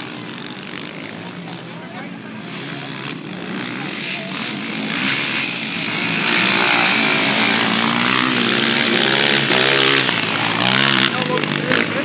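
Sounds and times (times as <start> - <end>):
quad engines revving: 0.0 - 12.0.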